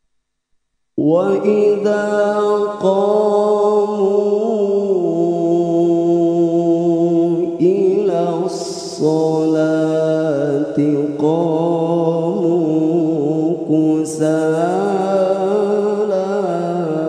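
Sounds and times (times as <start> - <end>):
man reciting melodically: 1.0 - 17.0.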